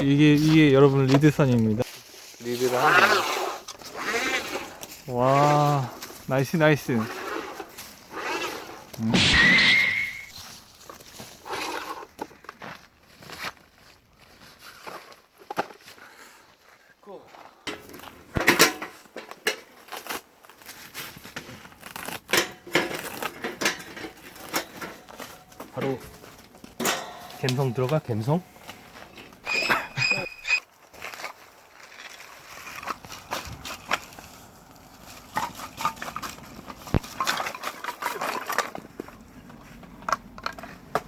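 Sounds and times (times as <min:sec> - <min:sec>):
gear rustling and crinkling: 0:00.1 - 0:09.0, 0:10.2 - 0:16.8, 0:17.8 - 0:41.0.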